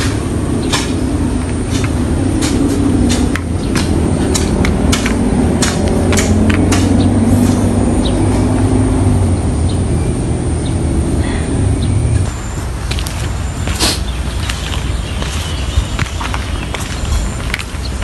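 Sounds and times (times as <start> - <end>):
motor engine humming: 0.0 - 18.0.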